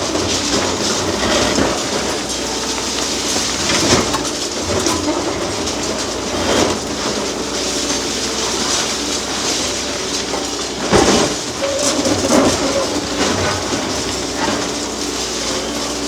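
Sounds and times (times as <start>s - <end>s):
concrete crushing and rubble falling: 0.0s - 16.0s
excavator engine running: 0.0s - 16.0s.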